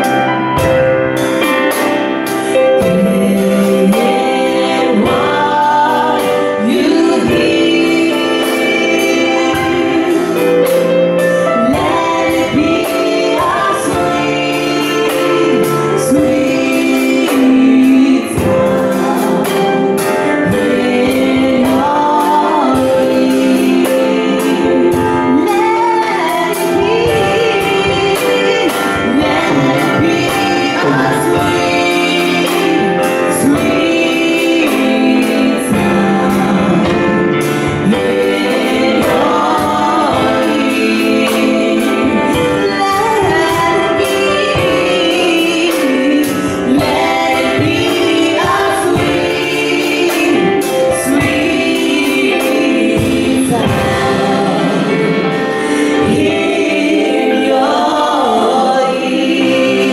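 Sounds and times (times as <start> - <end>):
backing singers: 0.0 - 59.9
sustained keyboard chords: 0.0 - 59.9
woman singing lead: 0.0 - 59.9.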